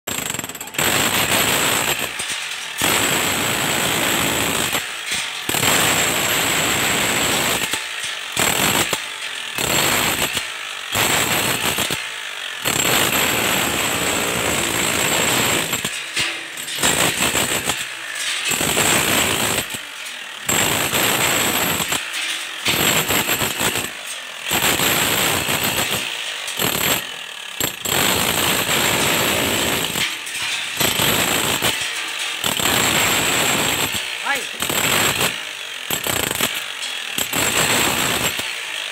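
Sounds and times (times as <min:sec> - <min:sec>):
demolition hammer chiselling concrete: 0:00.0 - 0:38.9.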